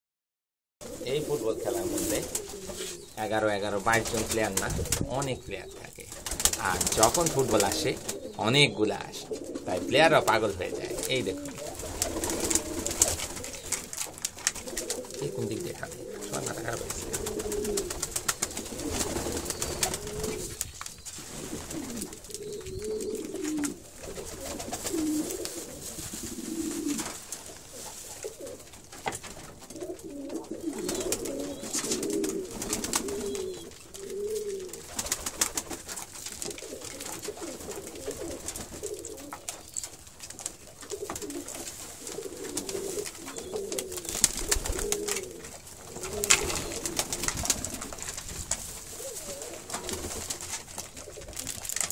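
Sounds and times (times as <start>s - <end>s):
pigeons cooing: 0.8s - 51.9s.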